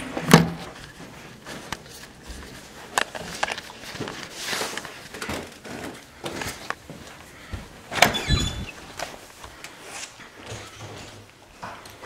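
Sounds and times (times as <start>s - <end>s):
footsteps: 0.0s - 12.0s.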